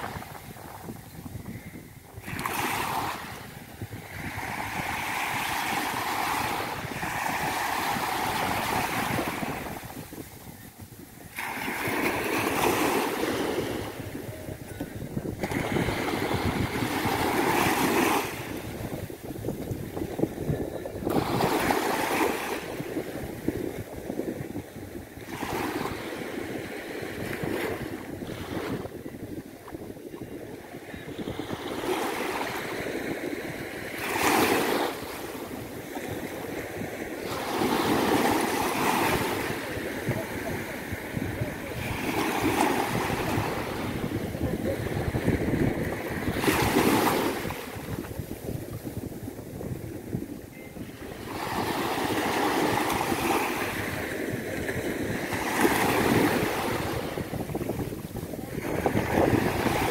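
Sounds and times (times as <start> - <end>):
sea waves breaking on beach: 0.0 - 59.9
wind buffeting microphone: 0.0 - 59.9.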